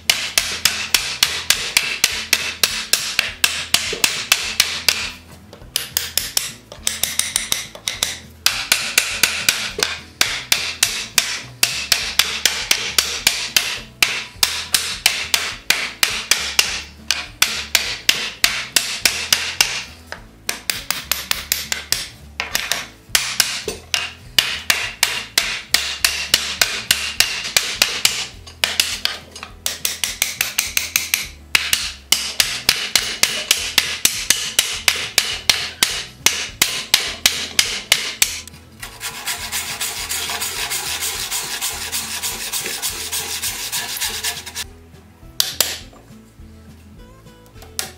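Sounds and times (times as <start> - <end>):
hammer tapping on wood: 0.0 - 44.6, 45.4 - 45.8.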